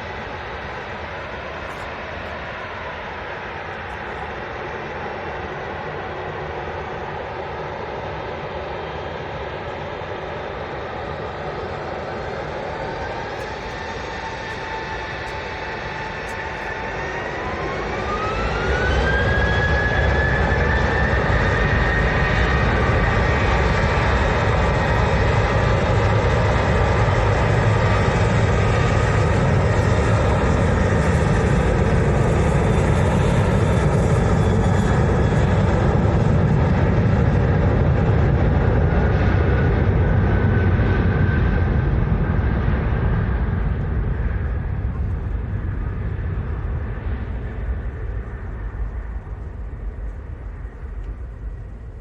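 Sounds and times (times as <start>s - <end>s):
jet engines spooling up: 9.2s - 52.0s.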